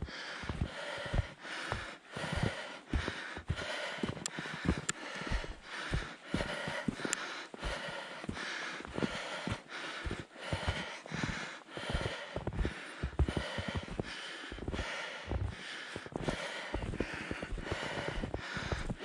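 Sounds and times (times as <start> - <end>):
person panting heavily: 0.0 - 19.0.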